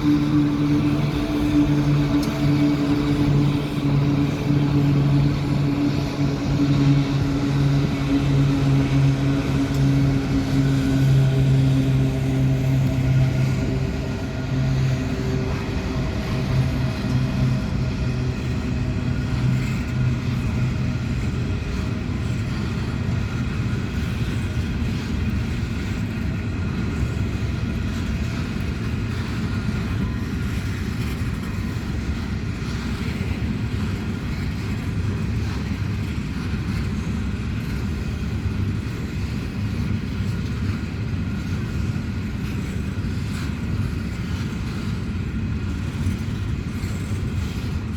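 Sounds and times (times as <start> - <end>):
diesel locomotive engine: 0.0 - 47.9
rumble of rolling wagons: 0.0 - 47.9.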